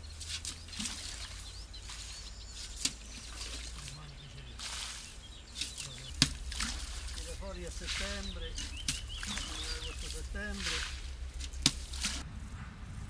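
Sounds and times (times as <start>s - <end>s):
small birds chirping: 0.0s - 12.2s
water splashing onto plants: 0.0s - 12.2s
steady low rumble: 1.2s - 13.0s.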